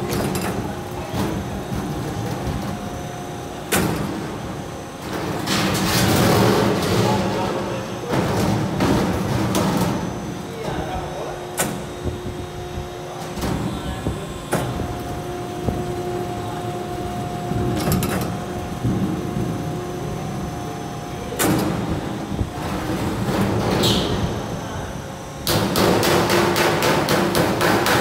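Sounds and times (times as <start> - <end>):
steady motor hum: 0.0 - 28.0.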